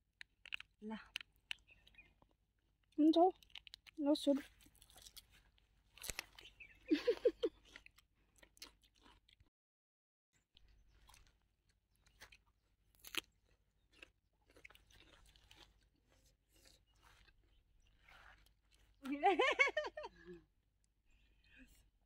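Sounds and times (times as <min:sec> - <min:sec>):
cucumber crunching and chewing: 0:00.2 - 0:09.5, 0:10.6 - 0:19.1.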